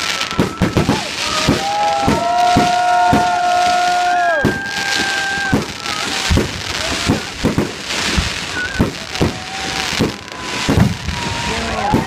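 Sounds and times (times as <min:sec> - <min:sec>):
fireworks bangs: 0:00.0 - 0:12.0
fireworks crackling hiss: 0:00.0 - 0:12.0.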